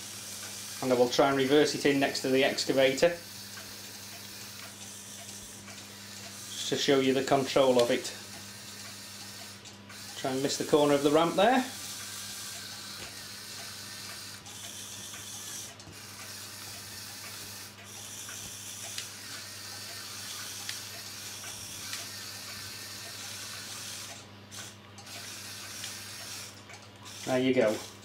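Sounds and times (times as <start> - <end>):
toy motor and gears whirring: 0.0 - 28.0.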